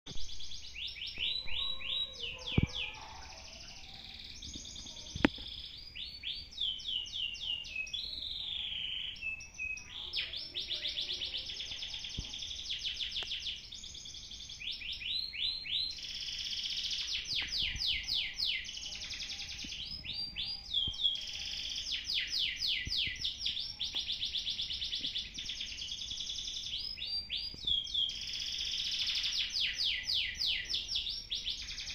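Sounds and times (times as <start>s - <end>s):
canary singing trills: 0.1s - 31.9s.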